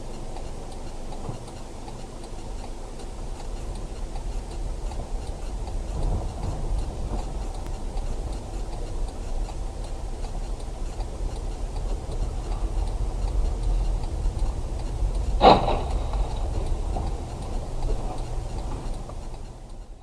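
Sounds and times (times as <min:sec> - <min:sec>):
faint even ticking: 0:00.0 - 0:20.0
vehicle engine and road noise: 0:00.0 - 0:20.0.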